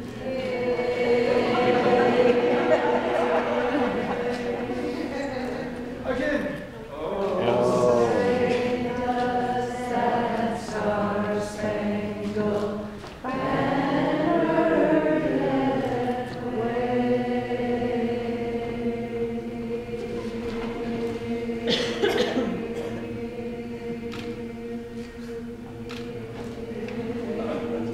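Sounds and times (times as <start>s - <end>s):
choir singing: 0.0s - 27.9s.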